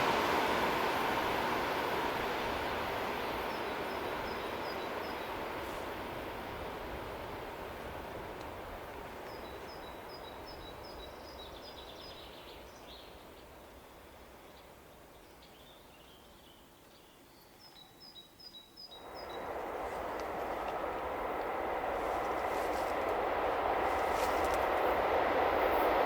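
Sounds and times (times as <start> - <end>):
train rumbling: 0.0 - 17.8, 18.9 - 26.0.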